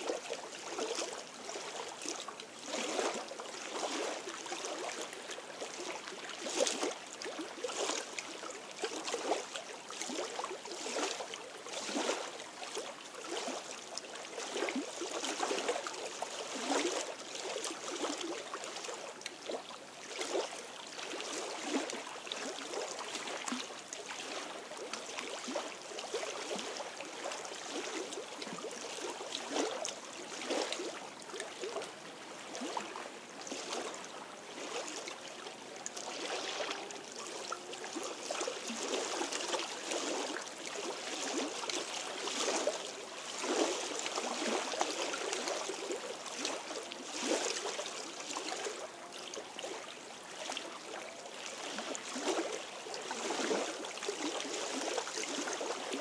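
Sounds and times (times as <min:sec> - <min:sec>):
small waves lapping against stones: 0:00.0 - 0:56.0.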